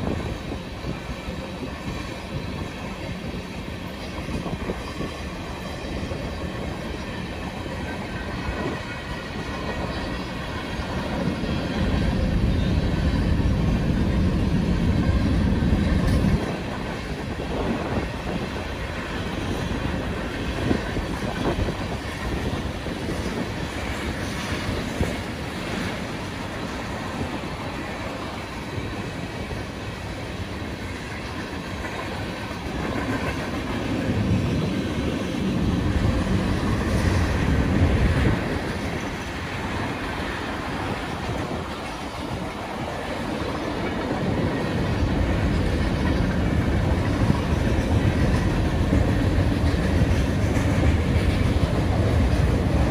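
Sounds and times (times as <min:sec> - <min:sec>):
train wheels clacking over rails: 0:00.0 - 0:52.9.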